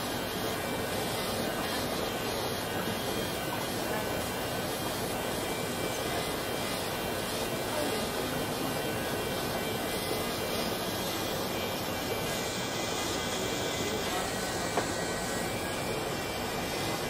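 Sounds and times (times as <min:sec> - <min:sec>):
electric nail file running: 0:00.0 - 0:17.0.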